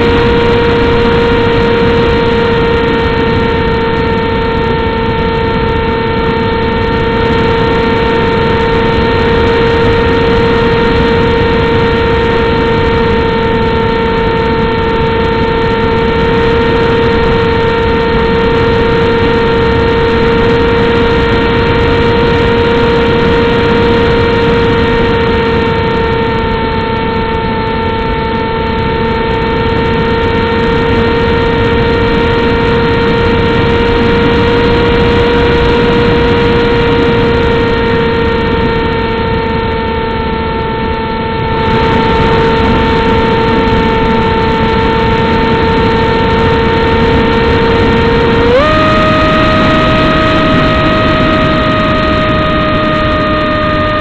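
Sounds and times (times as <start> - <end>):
model aircraft motor whine: 0.0 - 54.0
wind noise on microphone: 0.0 - 54.0.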